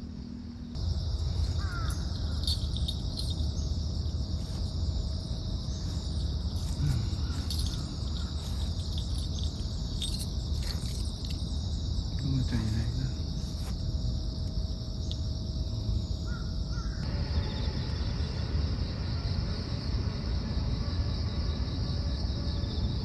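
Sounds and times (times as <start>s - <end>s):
insect chorus chirring: 0.0s - 23.0s.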